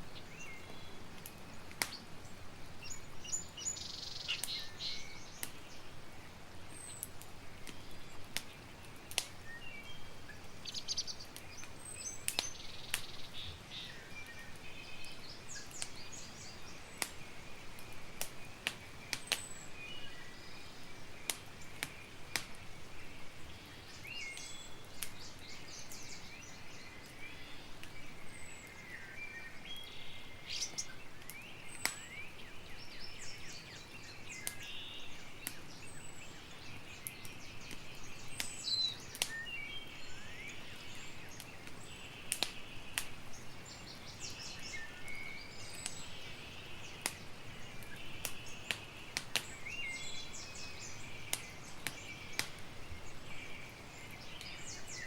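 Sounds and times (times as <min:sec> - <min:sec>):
campfire crackling: 0:00.0 - 0:55.0
small birds chirping: 0:00.0 - 0:55.0.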